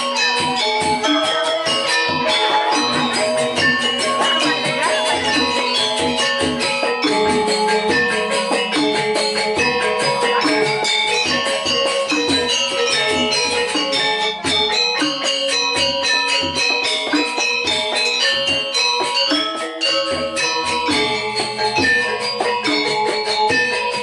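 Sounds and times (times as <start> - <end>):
gamelan music: 0.0 - 24.0.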